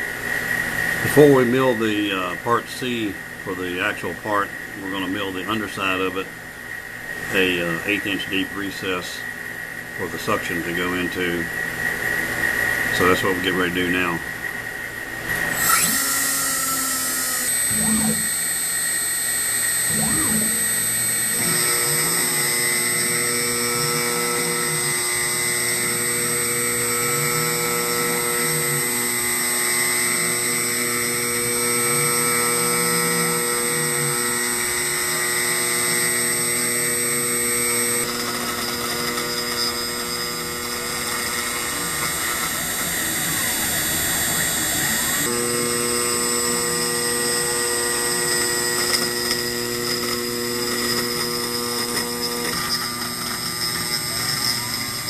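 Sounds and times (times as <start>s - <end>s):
cnc router spindle cutting metal: 0.0s - 55.0s.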